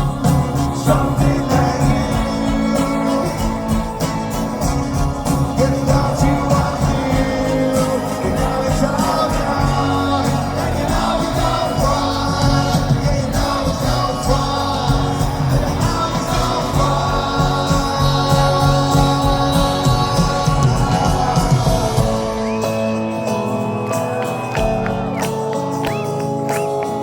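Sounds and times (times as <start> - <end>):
live rock band with singing: 0.0 - 27.0.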